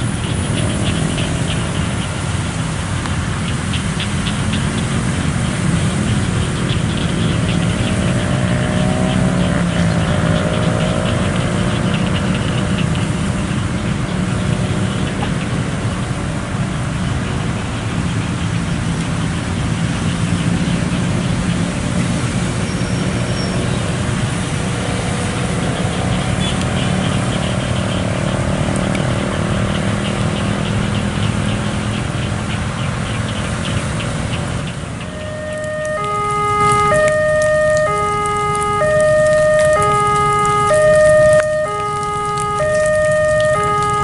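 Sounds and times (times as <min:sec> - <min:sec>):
idling motorcycle engines: 0:00.0 - 0:44.0
road traffic: 0:00.0 - 0:44.0.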